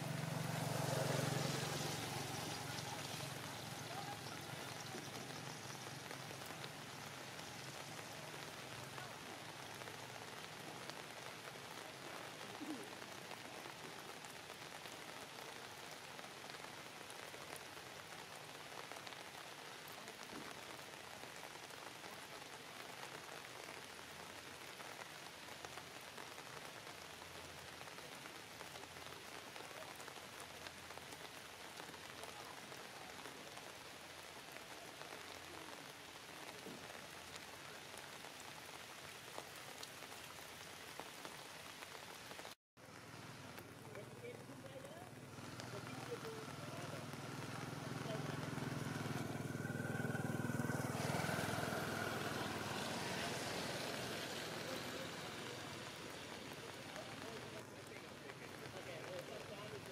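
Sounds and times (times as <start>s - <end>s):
faint hiss like light rain: 0.0s - 59.9s.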